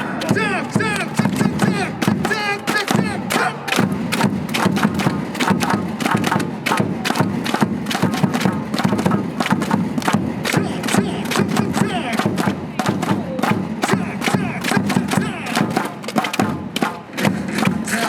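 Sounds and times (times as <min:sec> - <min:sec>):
crowd chanting in unison: 0:00.0 - 0:07.4, 0:10.0 - 0:18.0
rhythmic clapping beats: 0:00.0 - 0:18.0.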